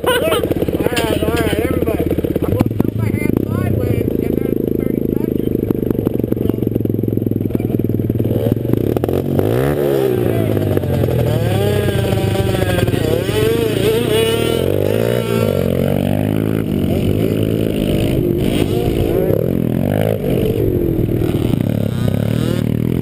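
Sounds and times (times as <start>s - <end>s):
small motorbike engines revving: 0.0s - 23.0s.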